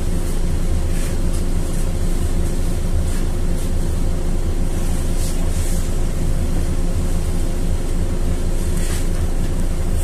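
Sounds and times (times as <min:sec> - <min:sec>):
bus engine drone: 0:00.0 - 0:10.0.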